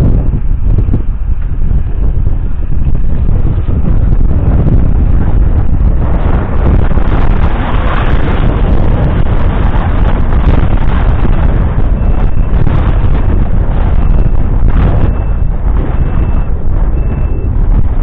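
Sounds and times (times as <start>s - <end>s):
tractor diesel engine under load: 0.0s - 18.0s
wind buffeting on microphone: 0.0s - 18.0s.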